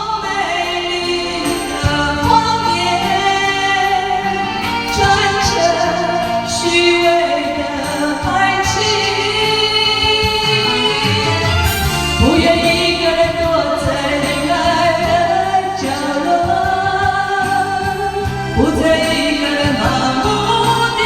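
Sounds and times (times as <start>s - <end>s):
instrumental backing: 0.0s - 21.0s
woman singing a pop ballad: 0.0s - 21.0s.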